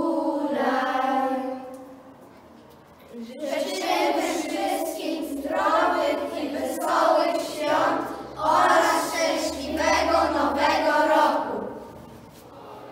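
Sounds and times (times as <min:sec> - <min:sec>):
children singing in unison: 0:00.0 - 0:02.0, 0:03.2 - 0:11.9.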